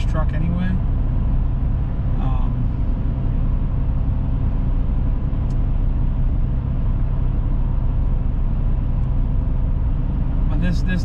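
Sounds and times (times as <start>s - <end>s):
engine and road rumble in cab: 0.0s - 11.0s.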